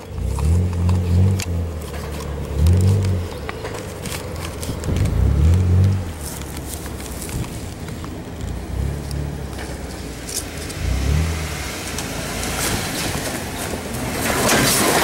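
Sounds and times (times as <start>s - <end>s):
engine revving: 0.0s - 6.4s, 8.4s - 15.0s.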